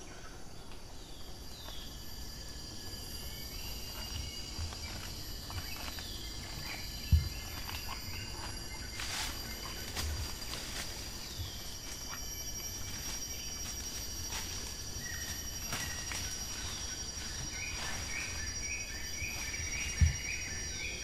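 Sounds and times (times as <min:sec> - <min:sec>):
insects high-pitched tones: 0:00.0 - 0:21.0
vegetation rustling: 0:03.4 - 0:21.0.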